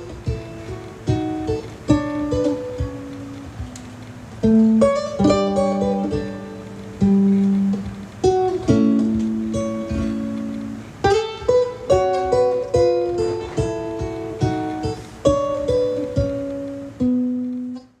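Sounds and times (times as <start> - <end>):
fingerpicked ukulele melody: 0.0 - 18.0.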